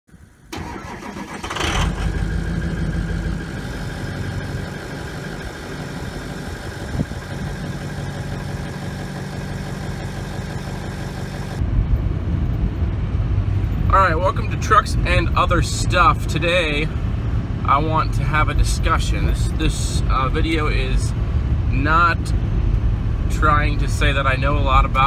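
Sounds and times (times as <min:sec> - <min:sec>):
truck engine starting and idling: 0:00.1 - 0:25.0.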